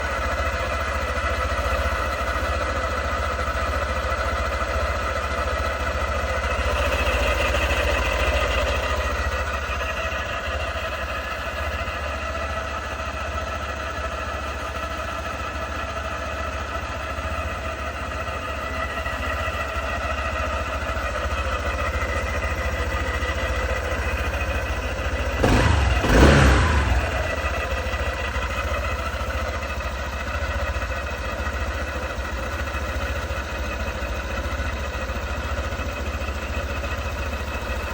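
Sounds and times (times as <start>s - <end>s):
scooter engine running: 0.0s - 37.9s.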